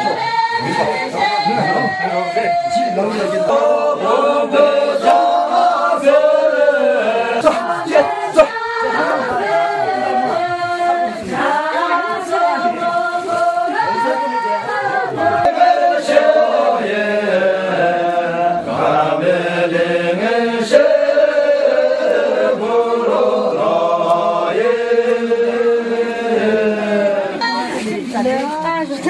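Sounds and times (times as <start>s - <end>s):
voices singing slow chant: 0.0s - 29.0s.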